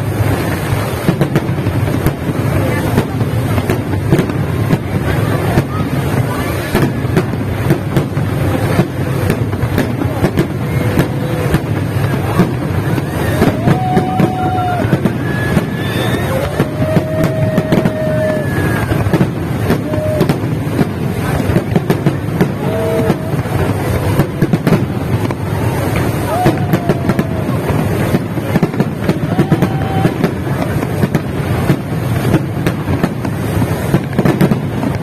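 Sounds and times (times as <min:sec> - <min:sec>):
fireworks bangs and crackles: 0:00.0 - 0:35.0
fireworks rumble: 0:00.0 - 0:35.0.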